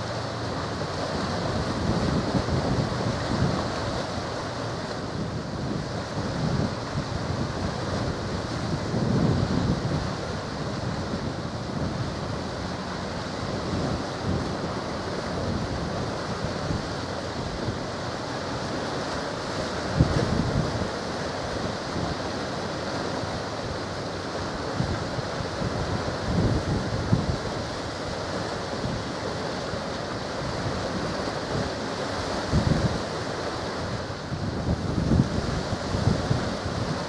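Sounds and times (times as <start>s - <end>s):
wind buffeting microphone: 0.0s - 18.1s, 19.8s - 21.0s, 24.6s - 29.2s, 30.2s - 37.0s
rushing water: 0.0s - 37.0s
wind: 0.0s - 37.0s.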